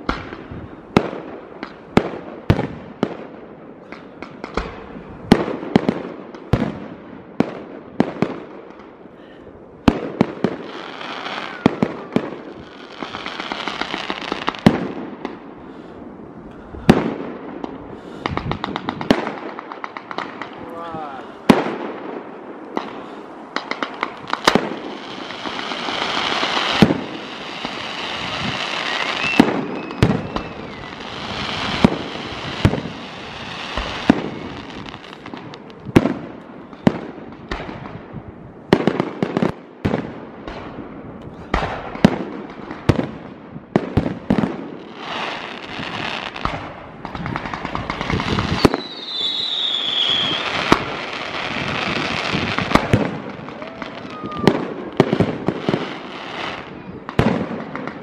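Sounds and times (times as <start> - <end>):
fireworks bangs: 0.0 - 9.0, 9.8 - 15.6, 16.8 - 58.0
fireworks hiss and crackle: 0.0 - 58.0.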